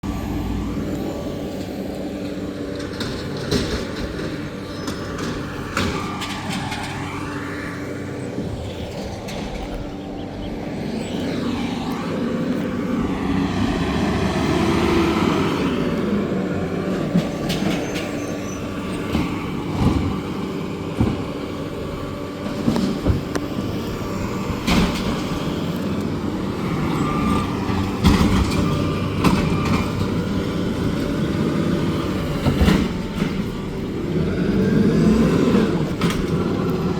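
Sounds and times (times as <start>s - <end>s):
garbage truck engine: 0.0s - 36.9s.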